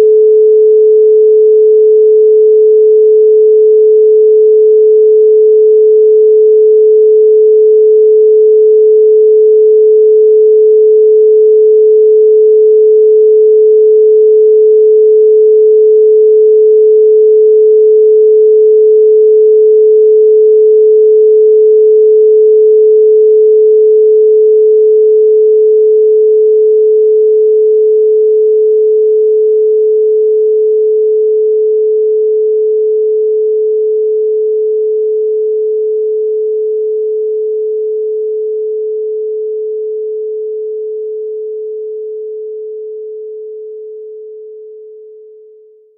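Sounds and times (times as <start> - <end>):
pure sine tone: 0.0 - 45.9.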